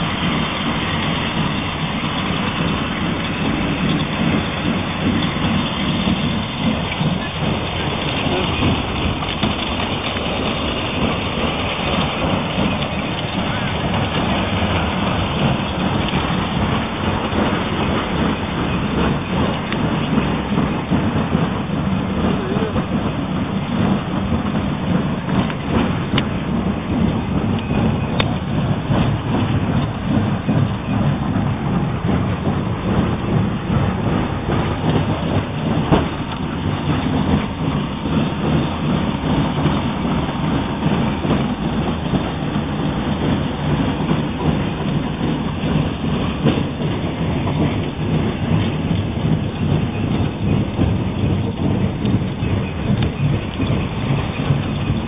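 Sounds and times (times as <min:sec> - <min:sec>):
loud mechanical din: 0:00.0 - 0:55.0.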